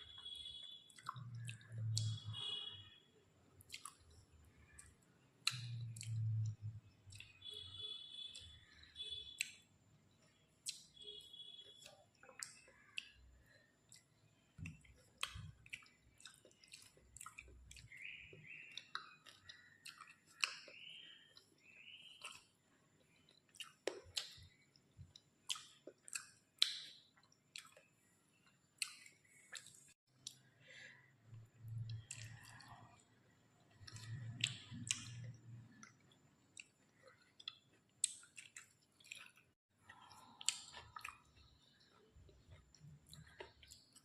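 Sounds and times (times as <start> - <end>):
person chewing food: 0.0 - 2.6, 3.6 - 44.0.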